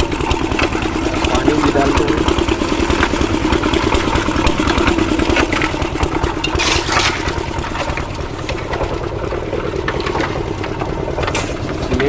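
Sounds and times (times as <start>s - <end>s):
concrete mixer engine running: 0.0s - 12.0s.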